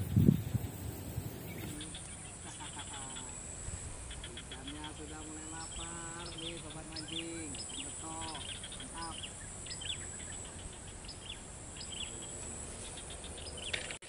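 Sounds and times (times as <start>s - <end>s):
birds chirping: 0.0s - 14.0s
faint background noise: 0.0s - 14.0s
lower pitched bird calls: 0.0s - 14.0s.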